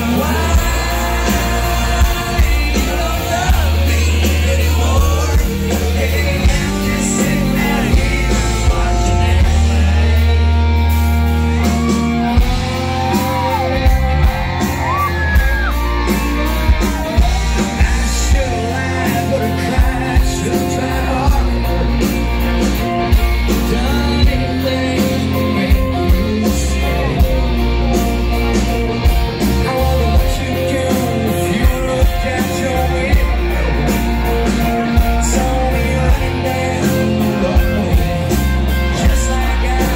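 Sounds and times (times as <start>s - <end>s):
bass notes: 0.0s - 39.9s
country band playing: 0.0s - 39.9s
man singing: 0.0s - 39.9s.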